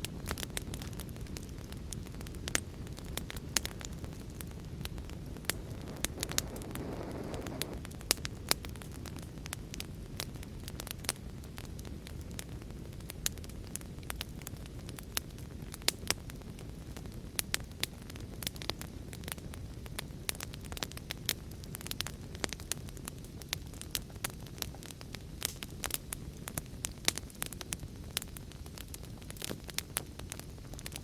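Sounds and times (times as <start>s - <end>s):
fire crackling and popping: 0.0s - 31.0s
wood fire rumbling: 0.0s - 31.0s.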